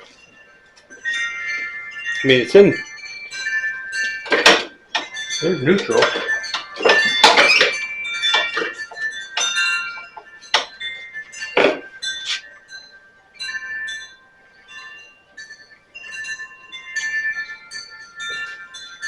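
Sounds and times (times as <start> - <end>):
sharp ringing clinks: 0.0 - 19.0.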